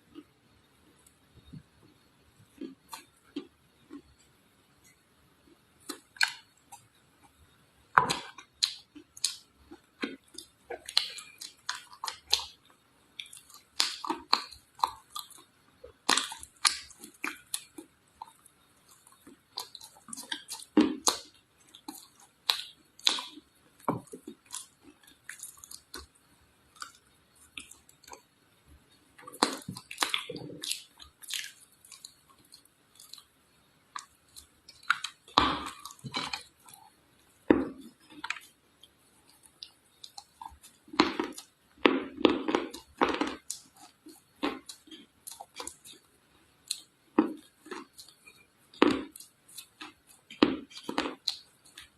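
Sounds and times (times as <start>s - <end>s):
clay being chewed with crunches: 0.0s - 51.9s.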